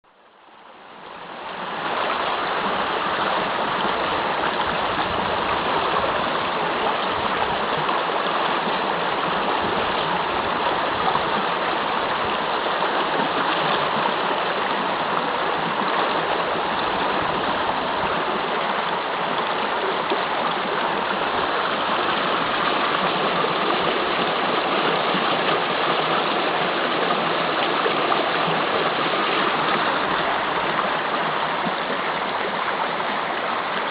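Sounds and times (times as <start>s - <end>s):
waterfall rushing: 1.0s - 33.9s.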